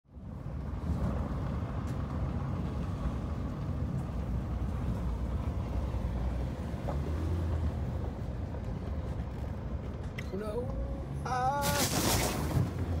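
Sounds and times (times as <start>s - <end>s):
car rumbling on dirt road: 0.1s - 13.0s.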